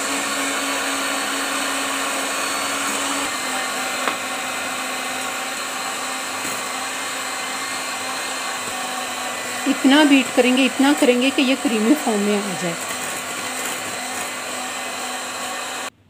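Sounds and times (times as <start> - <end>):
electric hand mixer running: 0.0 - 16.0.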